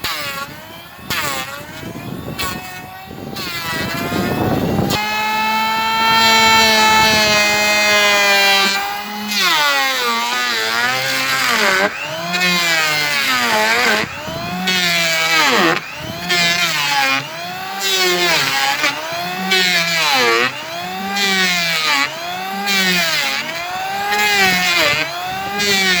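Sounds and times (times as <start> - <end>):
electric wood planer cutting: 0.0 - 26.0.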